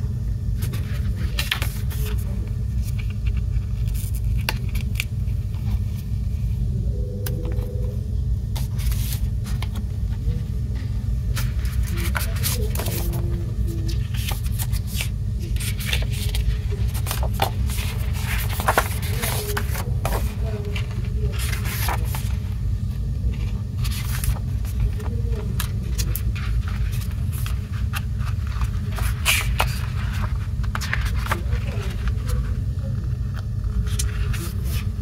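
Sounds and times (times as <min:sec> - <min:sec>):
steady low rumble: 0:00.0 - 0:35.0
paper and cardboard rustling: 0:00.6 - 0:06.1, 0:08.6 - 0:10.4, 0:11.3 - 0:22.6, 0:23.2 - 0:35.0.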